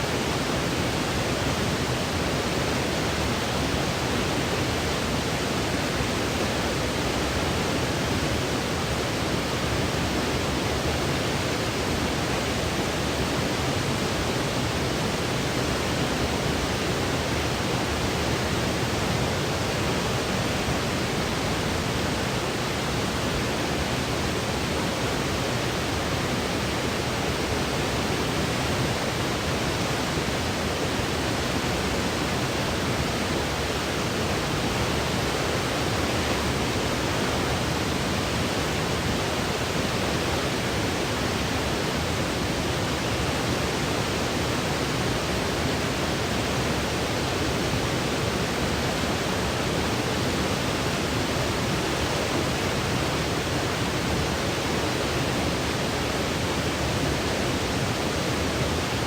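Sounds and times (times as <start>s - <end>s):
steady low hiss: 0.0s - 59.0s.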